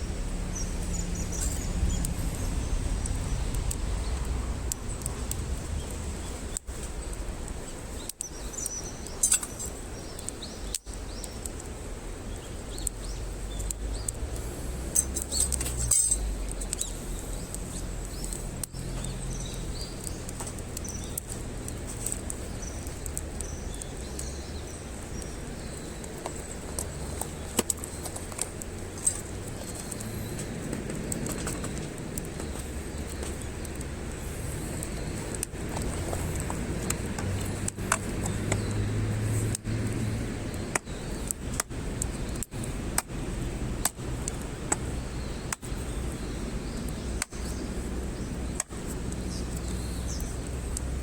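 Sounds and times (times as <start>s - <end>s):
birds chirping: 0.0s - 51.0s
campfire crackling: 0.0s - 51.0s
fire popping: 0.0s - 51.0s
low outdoor rumble: 0.0s - 51.0s.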